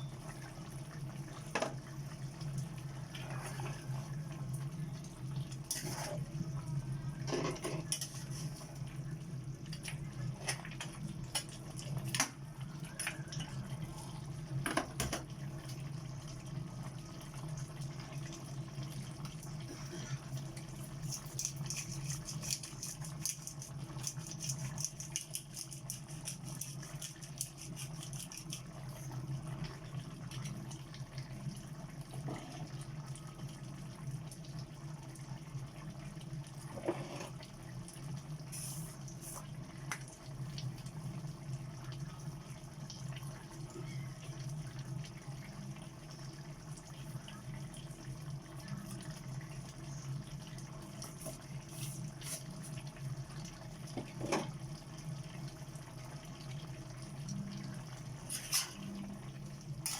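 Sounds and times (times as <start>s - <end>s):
liquid sounds: 0.0s - 59.9s.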